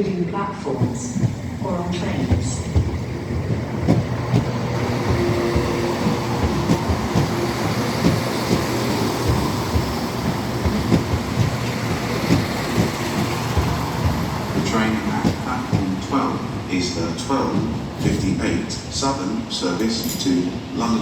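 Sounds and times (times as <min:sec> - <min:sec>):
train wheels knocking over rail joints: 0:00.0 - 0:18.9
train rumble and hum: 0:00.0 - 0:21.0.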